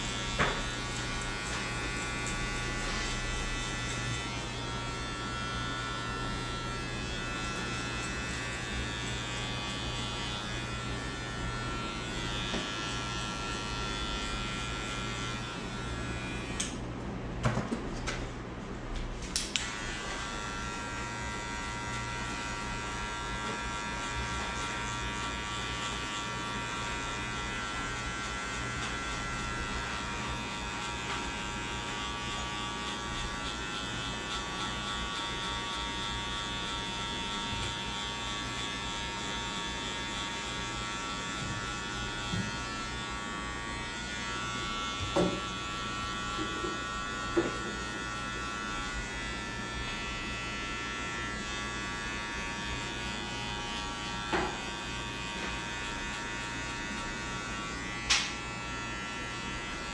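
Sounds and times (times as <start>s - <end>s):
electric hair clippers buzzing: 0.0s - 17.2s, 19.0s - 59.9s.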